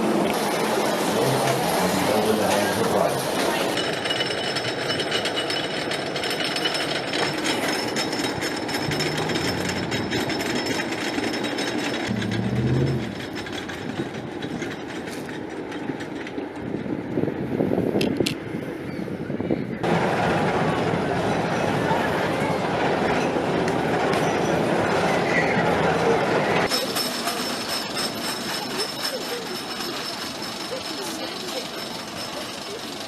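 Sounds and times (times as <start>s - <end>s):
roller coaster chain lift clattering: 0.0s - 17.5s, 19.8s - 33.0s.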